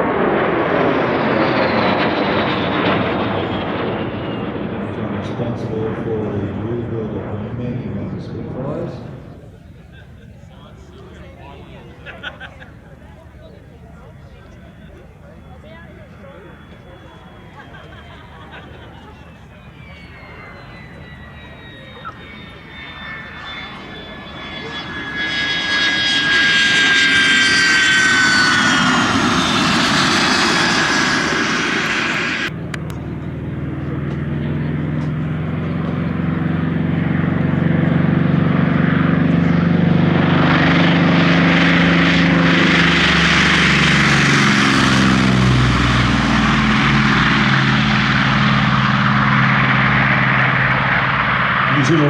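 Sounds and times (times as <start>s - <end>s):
jet aircraft whine: 0.0s - 52.0s
propeller aircraft engine drone: 0.0s - 52.0s.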